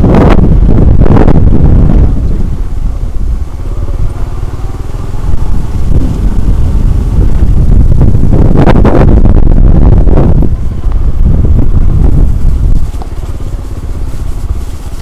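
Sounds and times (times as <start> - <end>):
engine running: 0.0 - 15.0
wind buffeting microphone: 0.0 - 15.0.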